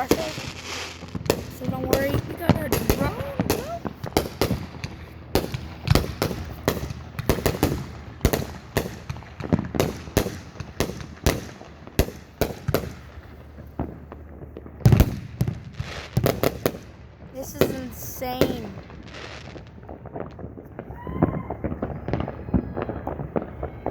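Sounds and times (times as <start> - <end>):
fireworks bangs and cracks: 0.0 - 23.9.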